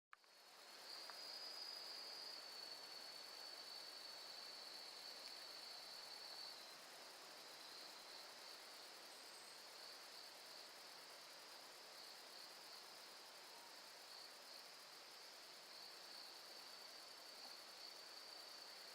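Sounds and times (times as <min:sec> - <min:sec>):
light hiss: 0:00.2 - 0:18.9
quieter pulsing insect trill: 0:00.2 - 0:18.9.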